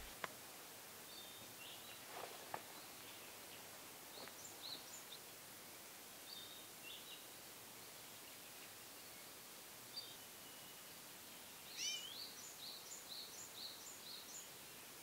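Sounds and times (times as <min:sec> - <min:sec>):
background hiss: 0:00.0 - 0:15.0
small birds chirping: 0:01.0 - 0:15.0.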